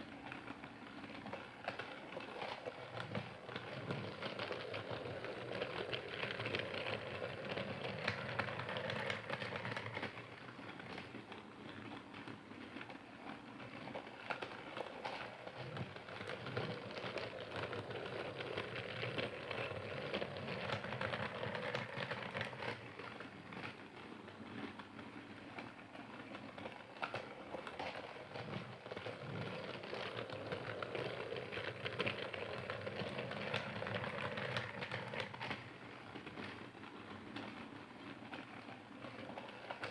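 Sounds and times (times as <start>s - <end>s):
toy train clattering on track: 0.0s - 39.9s
toy train motor hum: 0.0s - 39.9s.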